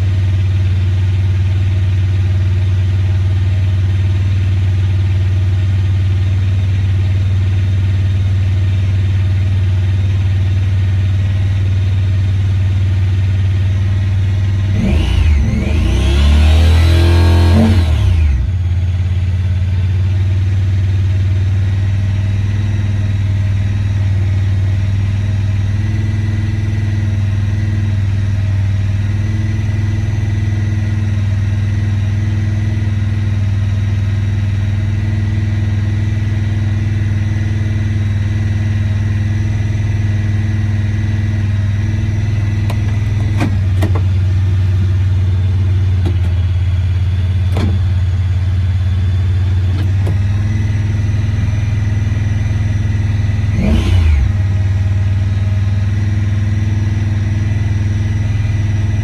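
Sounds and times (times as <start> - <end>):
engine revving down and idling: 0.0 - 59.0.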